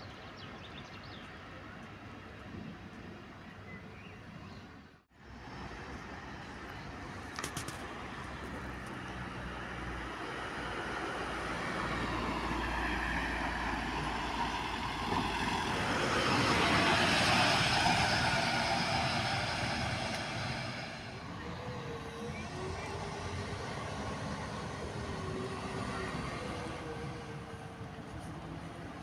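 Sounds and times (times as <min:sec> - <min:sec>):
bus driving past: 0:05.1 - 0:29.0.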